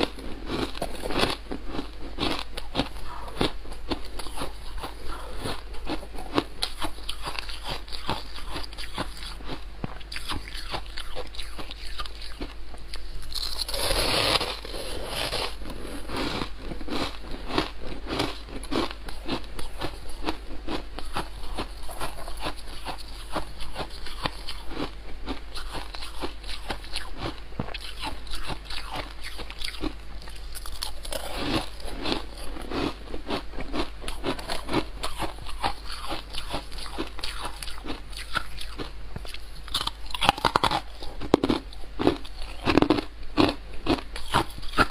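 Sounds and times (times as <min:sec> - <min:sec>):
ice crunching while chewed: 0:00.0 - 0:44.9.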